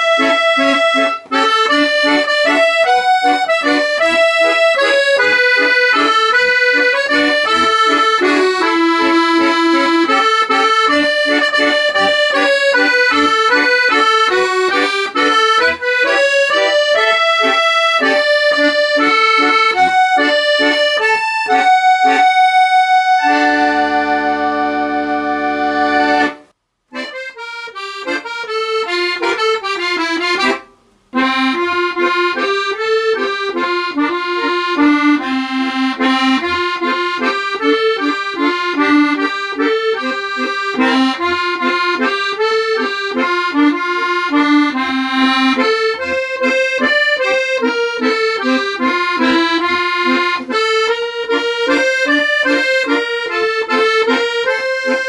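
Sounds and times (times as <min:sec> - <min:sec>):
accordion music: 0:00.0 - 0:55.0.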